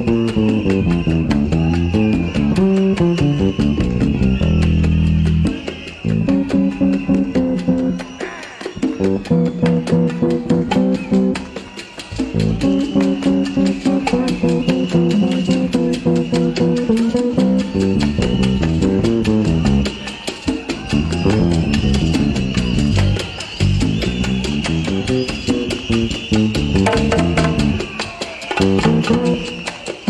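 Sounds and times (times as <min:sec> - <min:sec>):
electric bass guitar solo: 0:00.0 - 0:08.1, 0:08.8 - 0:11.4, 0:12.2 - 0:19.9, 0:20.8 - 0:23.2, 0:23.8 - 0:27.8, 0:28.6 - 0:29.4
steady clicking beat: 0:00.0 - 0:30.0.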